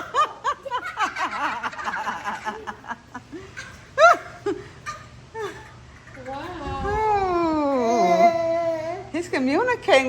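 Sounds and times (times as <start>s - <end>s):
children laughing and giggling: 0.0s - 9.1s.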